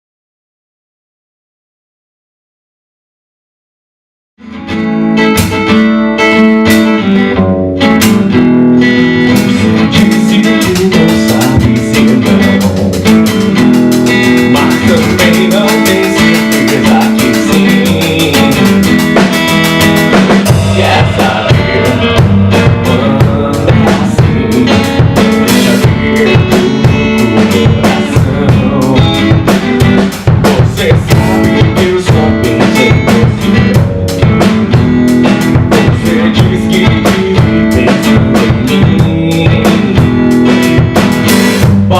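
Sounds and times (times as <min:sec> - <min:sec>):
band music: 0:04.4 - 0:41.9
drum kit: 0:04.6 - 0:41.9.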